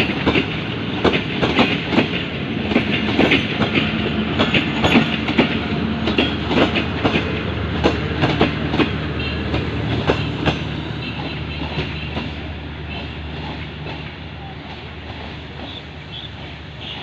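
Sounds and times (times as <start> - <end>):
wheels clicking over rail joints: 0.0 - 17.0.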